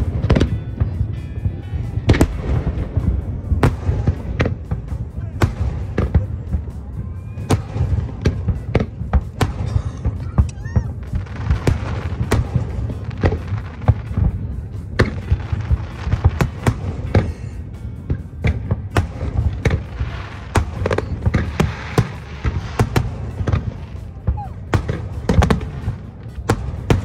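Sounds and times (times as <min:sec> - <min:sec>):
fireworks bursting with sharp bangs: 0:00.0 - 0:27.0
steady low rumble: 0:00.0 - 0:27.0.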